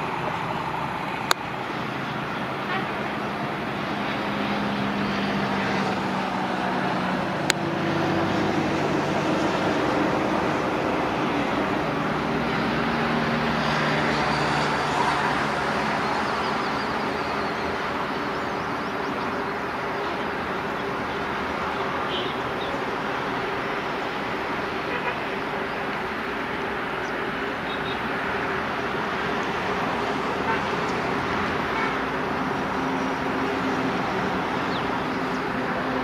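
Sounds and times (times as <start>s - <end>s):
diesel locomotive rumbling: 0.0s - 36.0s.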